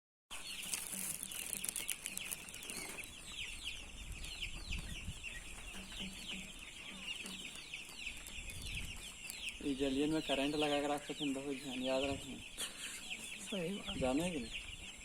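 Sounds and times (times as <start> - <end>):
chickens calling: 0.3 - 15.0.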